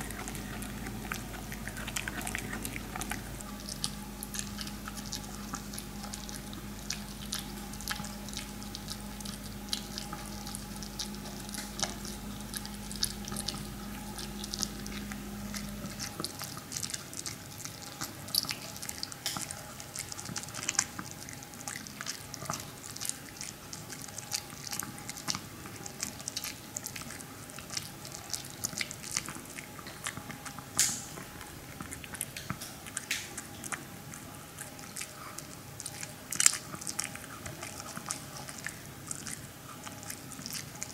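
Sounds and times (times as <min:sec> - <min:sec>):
dog chewing crunchily: 0:00.0 - 0:40.9
low steady hum: 0:00.0 - 0:40.9.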